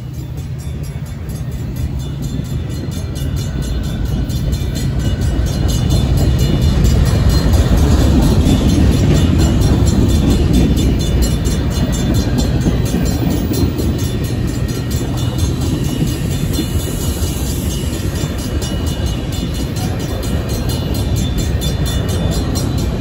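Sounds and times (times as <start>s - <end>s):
crossing bell dinging: 0.0s - 23.0s
freight train wheels rumbling: 0.0s - 23.0s.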